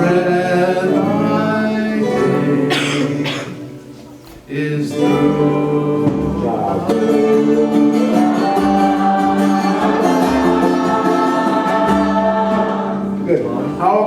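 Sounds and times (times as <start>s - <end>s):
person singing slow melody: 0.0s - 13.2s
acoustic guitar strumming: 0.0s - 14.0s.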